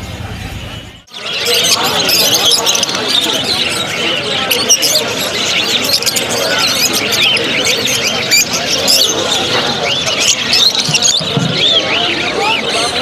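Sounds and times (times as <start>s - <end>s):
background murmur: 0.0s - 13.0s
small birds chirping: 0.8s - 13.0s.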